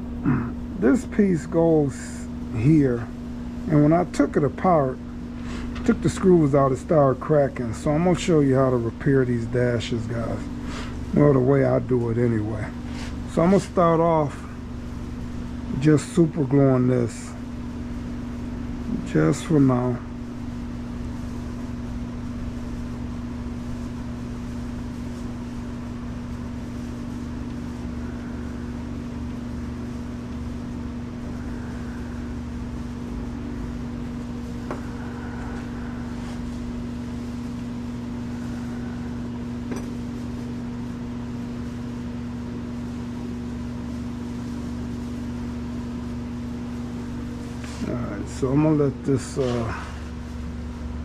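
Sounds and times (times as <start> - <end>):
machine hum with low tone: 0.0 - 51.0.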